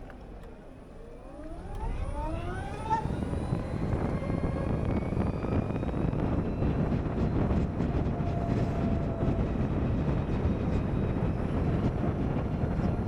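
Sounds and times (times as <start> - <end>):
wind noise: 1.8 - 13.0.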